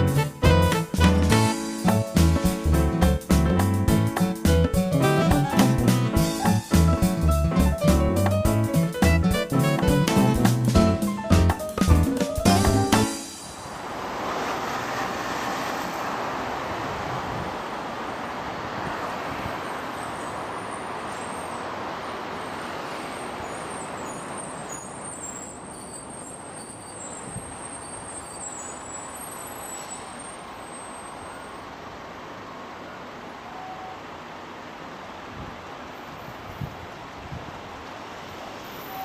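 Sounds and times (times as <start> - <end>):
road traffic rush: 0.0 - 39.0.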